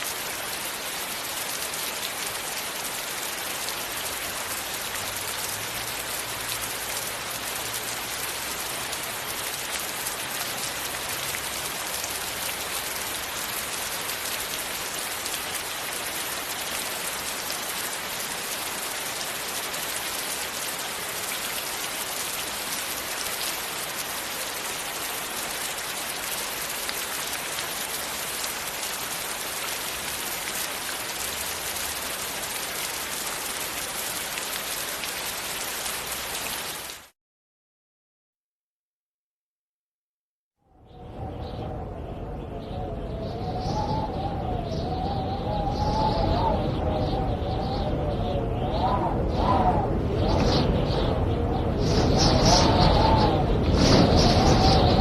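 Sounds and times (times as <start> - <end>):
steady rain: 0.0 - 37.2, 40.9 - 55.0.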